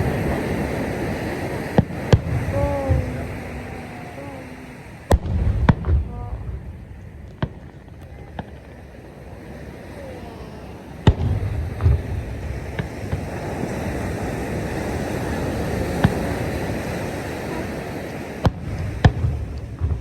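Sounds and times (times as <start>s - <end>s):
distant fireworks bangs: 0.0s - 20.0s
steady rushing noise: 0.0s - 20.0s.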